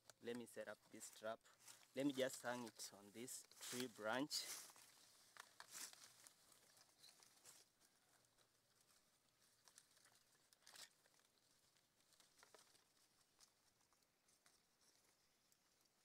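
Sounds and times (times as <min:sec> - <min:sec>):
faint rustling of leafy branches: 0:00.0 - 0:16.0
soft paper crackles: 0:00.1 - 0:16.0.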